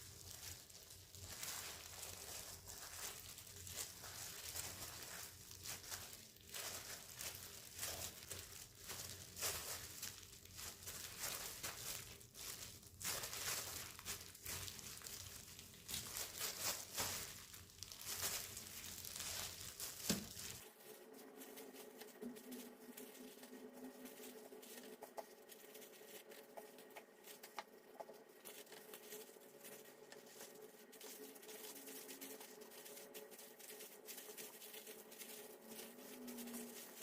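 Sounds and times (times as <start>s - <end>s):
crinkling and rustling: 0.0s - 37.0s
faint steady hum: 0.0s - 37.0s.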